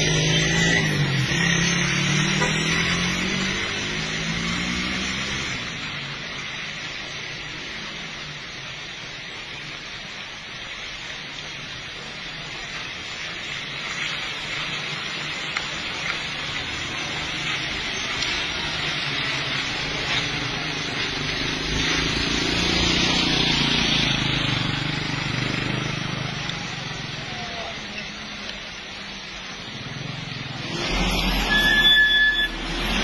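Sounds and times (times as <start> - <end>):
tyres hissing on wet road: 0.0 - 33.0
vehicle engine rumble: 0.0 - 33.0.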